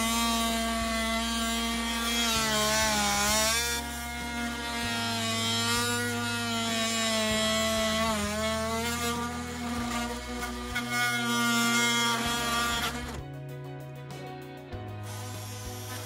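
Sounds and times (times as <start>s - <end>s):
oscillating multi-tool cutting wood: 0.0s - 13.2s, 15.0s - 16.0s.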